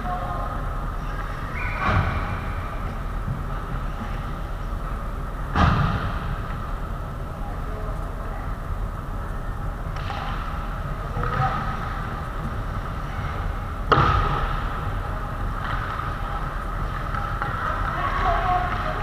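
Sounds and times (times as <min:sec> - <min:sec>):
ice rink background: 0:00.0 - 0:19.0.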